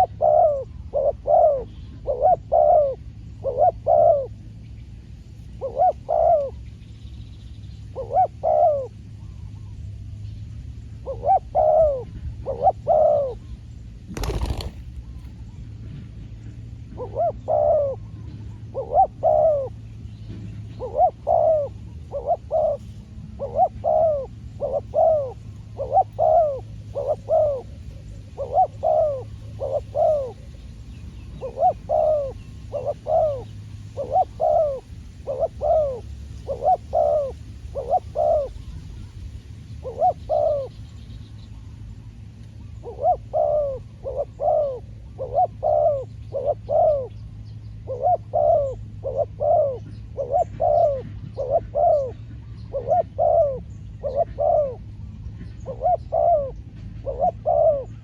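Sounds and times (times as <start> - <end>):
dove cooing: 0.0 - 4.6, 5.5 - 6.6, 7.9 - 9.8, 10.9 - 14.9, 16.9 - 19.9, 20.5 - 40.7, 42.7 - 58.0
low steady hum: 0.0 - 58.0.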